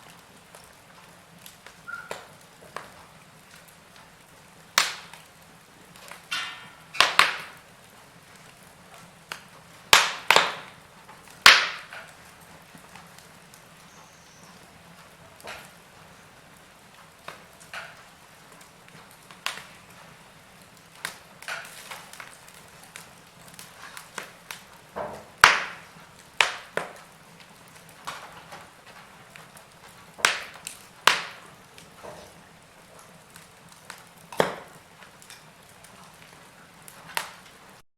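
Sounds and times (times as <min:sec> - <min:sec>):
faint steady hiss: 0:00.0 - 0:37.8
log fire crackling: 0:00.0 - 0:37.8.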